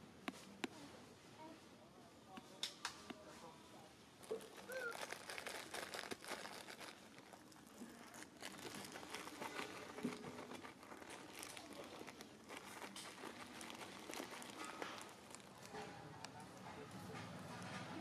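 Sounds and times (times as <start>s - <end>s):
faint rustling and crackling: 0.2s - 18.0s.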